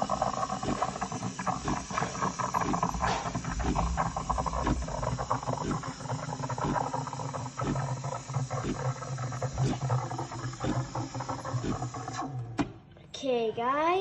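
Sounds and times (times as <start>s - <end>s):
steam wand hissing in milk: 0.0s - 12.3s
spluttering crackles: 0.0s - 12.4s
steady low hum: 0.0s - 13.2s.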